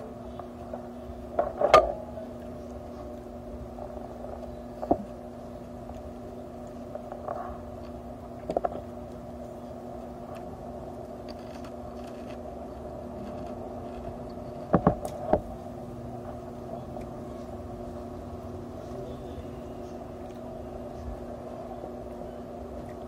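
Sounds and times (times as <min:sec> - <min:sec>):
electric hum: 0:00.0 - 0:23.0.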